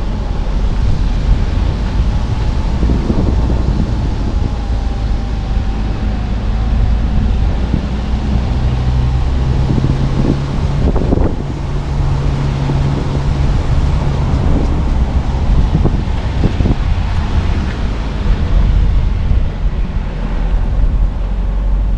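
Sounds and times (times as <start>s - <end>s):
car engine and tyre rumble: 0.0s - 21.9s
wind buffeting microphone: 0.0s - 21.9s.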